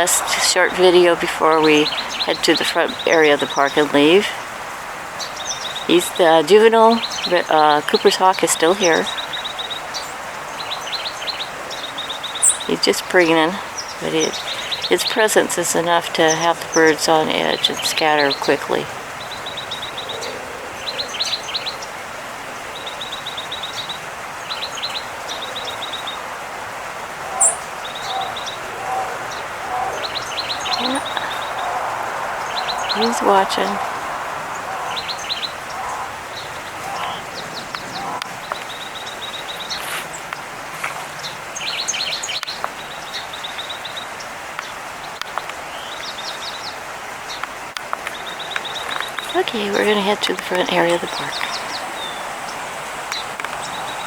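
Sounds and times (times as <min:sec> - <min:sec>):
outdoor background hiss: 0:00.0 - 0:54.0
small birds chirping: 0:00.0 - 0:54.0
songbird trill: 0:00.0 - 0:54.0.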